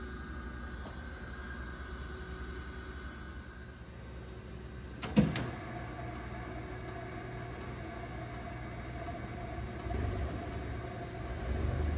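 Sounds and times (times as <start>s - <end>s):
honing machine motor hum: 0.0s - 11.9s.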